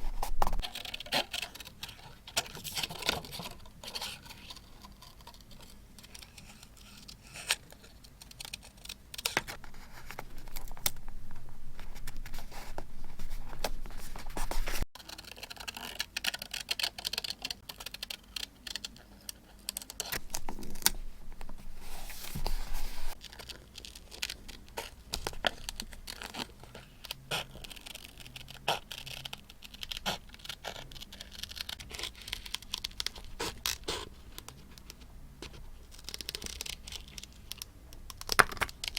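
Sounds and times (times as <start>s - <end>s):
paper and stickers rustling: 0.0s - 38.9s.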